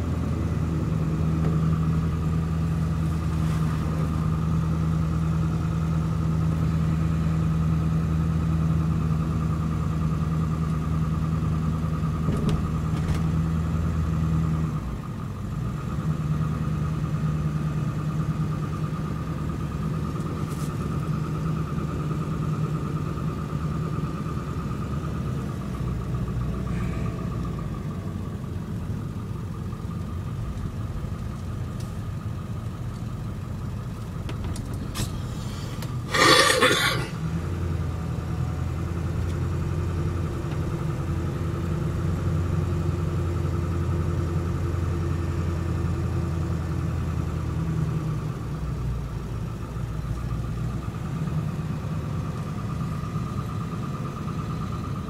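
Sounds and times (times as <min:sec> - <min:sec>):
truck engine drone: 0:00.0 - 0:55.0.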